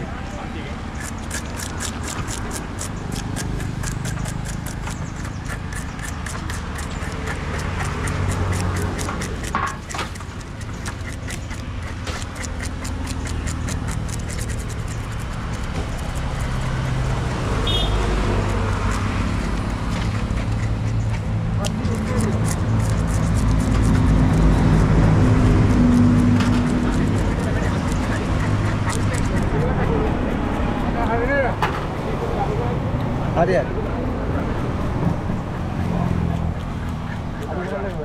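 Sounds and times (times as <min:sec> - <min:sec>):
rapid clicking and knocking: 0:01.0 - 0:32.0.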